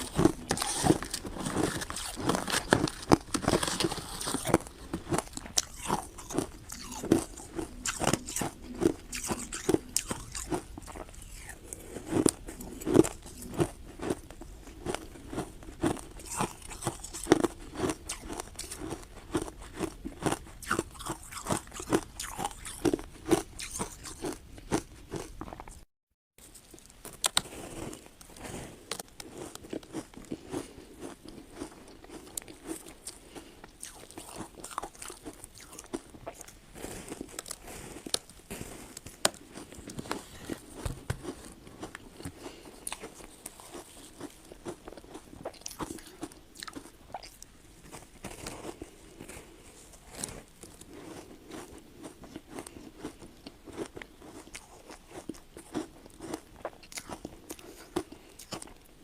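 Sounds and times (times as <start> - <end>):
ice being chewed: 0.0 - 25.8, 26.5 - 59.0.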